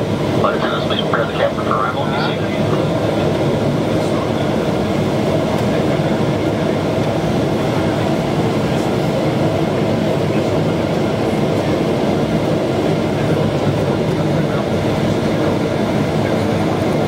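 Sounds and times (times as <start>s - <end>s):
jet engine cabin roar: 0.0s - 17.0s.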